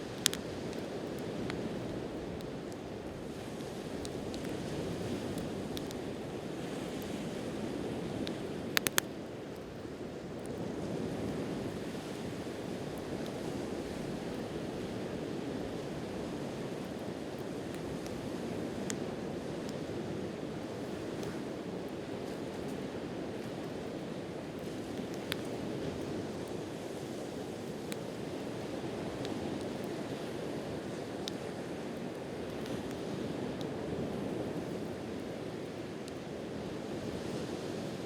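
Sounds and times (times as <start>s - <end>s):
campfire crackling: 0.0s - 38.0s
sea waves washing onto shore: 0.0s - 38.0s.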